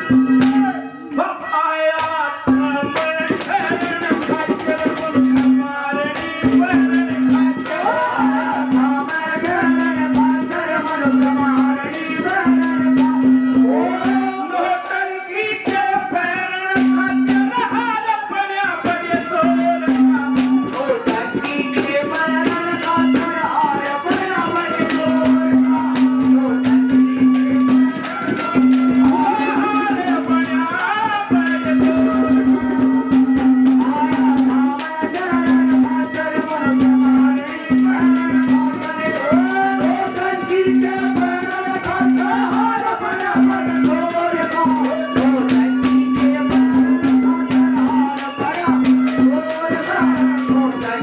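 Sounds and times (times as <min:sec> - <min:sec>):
hand drum strokes: 0:02.5 - 0:14.7, 0:18.8 - 0:51.0.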